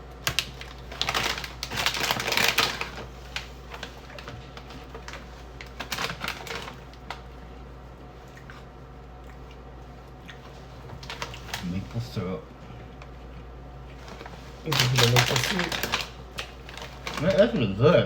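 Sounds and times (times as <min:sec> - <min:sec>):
crackers being chewed: 0:00.1 - 0:12.0, 0:12.8 - 0:17.8.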